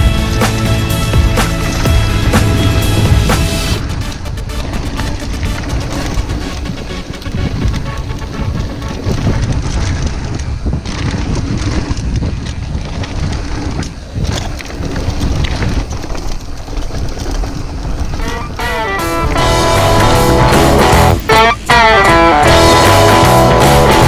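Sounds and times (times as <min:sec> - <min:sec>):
wind buffeting microphone: 0:00.0 - 0:21.8
bike knocking and rattling: 0:00.0 - 0:24.0
tyres rumbling on dirt: 0:00.0 - 0:24.0.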